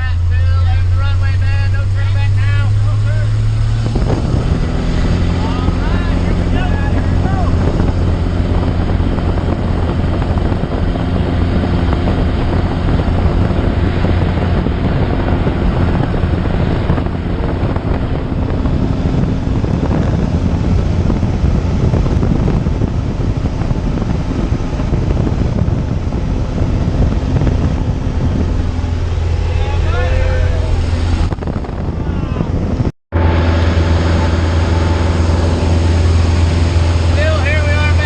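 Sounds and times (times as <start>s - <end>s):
propeller aircraft engine drone: 0.0s - 38.0s
wind on microphone: 0.0s - 38.0s.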